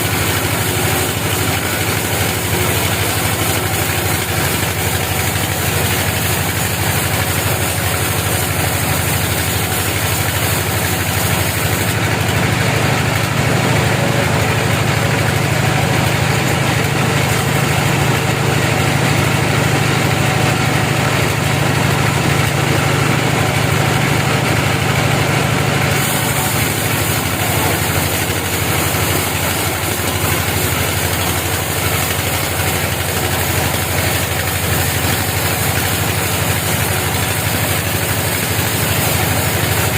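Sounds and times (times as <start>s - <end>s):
sawmill machinery engine running: 0.0s - 39.9s.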